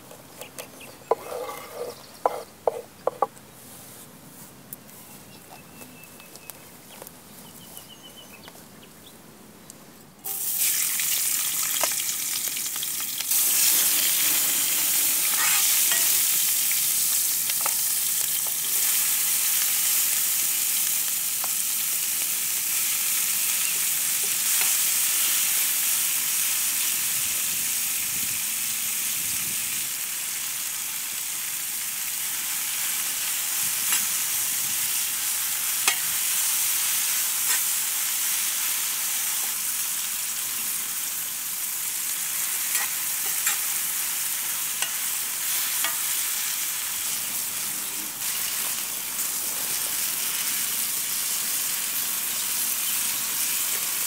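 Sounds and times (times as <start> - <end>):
meat sizzling: 10.2 - 54.0.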